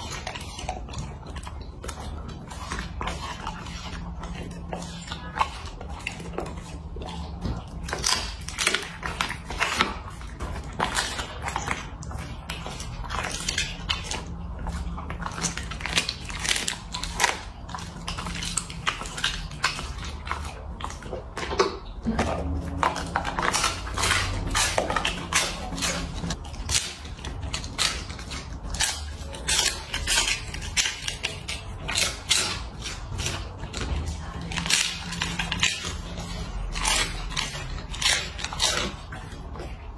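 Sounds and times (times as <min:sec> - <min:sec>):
dog crunching dried fish: 0:00.0 - 0:39.9.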